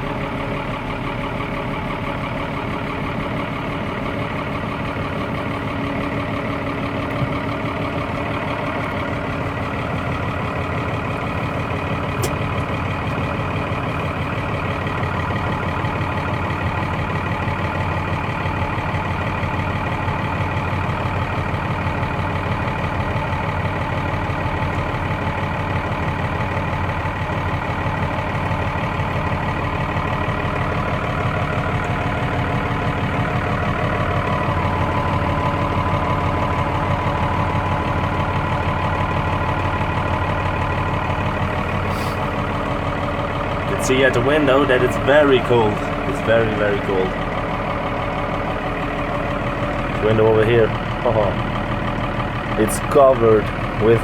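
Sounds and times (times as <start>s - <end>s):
diesel tractor engine idling: 0.0s - 54.0s.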